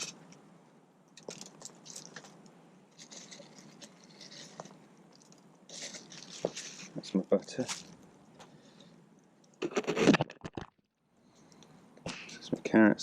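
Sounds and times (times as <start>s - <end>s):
rustling and scraping: 0.0s - 0.4s, 1.2s - 9.0s, 9.6s - 12.5s.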